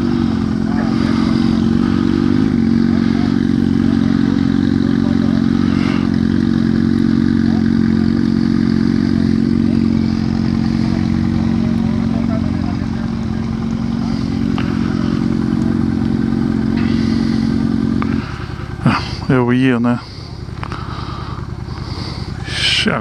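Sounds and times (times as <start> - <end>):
motorcycle engine running near idle: 0.0 - 23.0.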